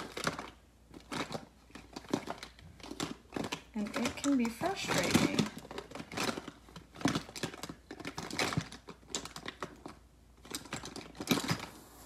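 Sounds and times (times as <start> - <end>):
plastic cases clattering: 0.0 - 11.7.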